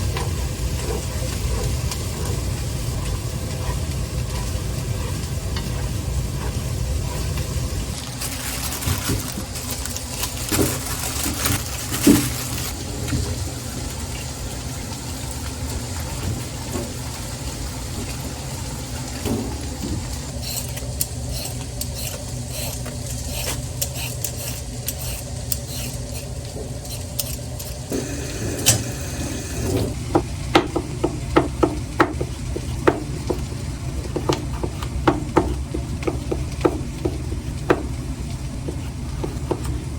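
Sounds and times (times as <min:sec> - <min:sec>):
food frying in a pan: 0:00.0 - 0:39.9.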